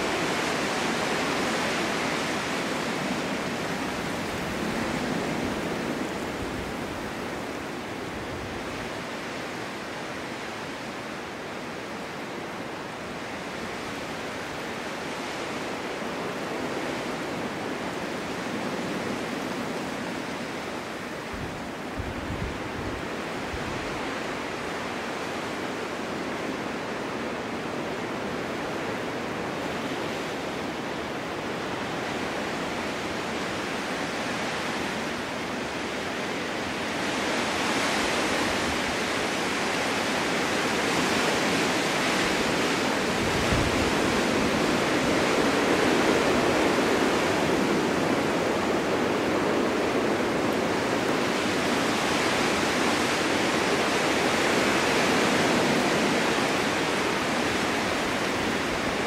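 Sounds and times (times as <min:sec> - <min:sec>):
snowstorm wind gusting: 0:00.0 - 0:59.0.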